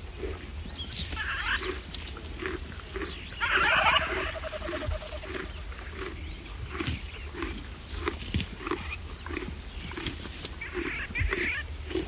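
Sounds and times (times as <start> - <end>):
birds calling: 0.0 - 12.0
zebra chewing grass: 0.0 - 12.0.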